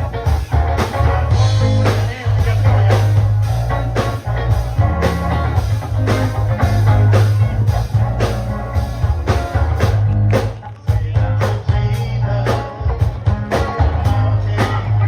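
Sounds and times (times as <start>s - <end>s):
bass line: 0.0s - 15.0s
drum kit beat: 0.0s - 15.0s
electric guitar: 0.0s - 15.0s.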